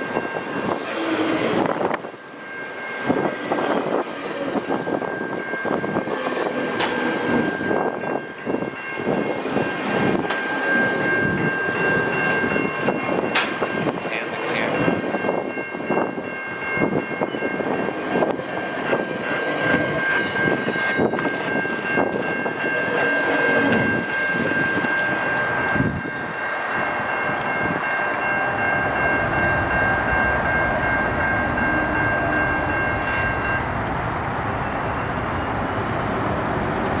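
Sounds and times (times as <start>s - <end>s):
train rumble and wheel clatter: 0.0s - 37.0s.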